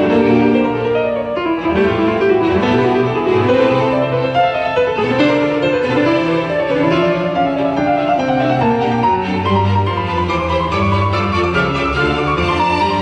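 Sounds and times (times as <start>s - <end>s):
string and piano music on loudspeakers: 0.0s - 13.0s.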